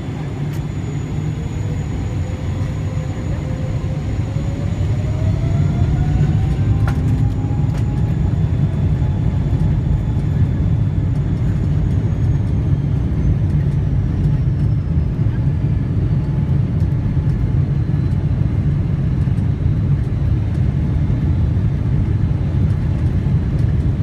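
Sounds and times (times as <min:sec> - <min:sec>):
jet engine whine and rumble: 0:00.0 - 0:24.0.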